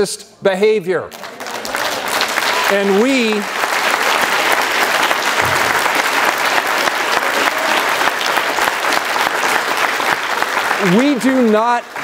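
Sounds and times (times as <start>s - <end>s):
crowd applauding: 1.1s - 12.0s.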